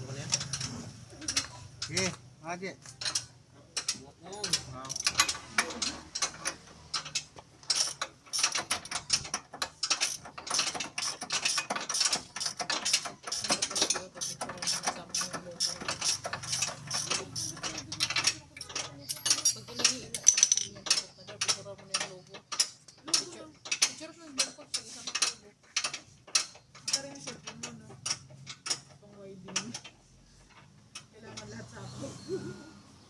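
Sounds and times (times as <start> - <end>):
ratchet wrench clicking: 0.2 - 2.2, 2.8 - 31.6.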